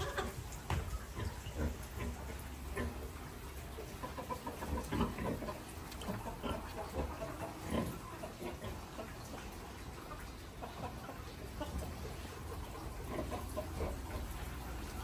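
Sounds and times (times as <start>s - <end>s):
chickens clucking: 0.0s - 15.0s
low background noise: 0.0s - 15.0s.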